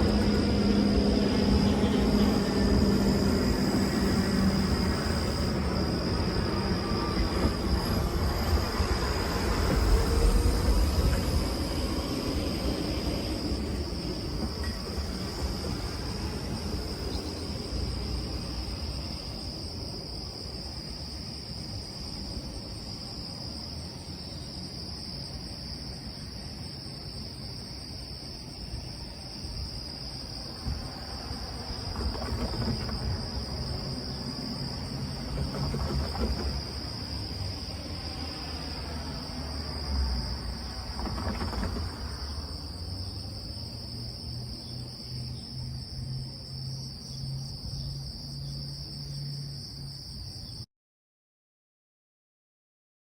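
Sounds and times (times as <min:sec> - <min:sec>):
high-pitched insect chorus: 0:00.0 - 0:50.7.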